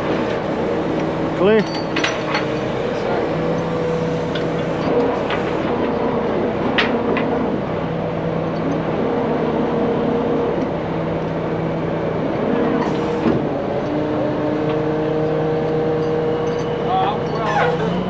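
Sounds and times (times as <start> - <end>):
heavy truck engine running: 0.0 - 18.0.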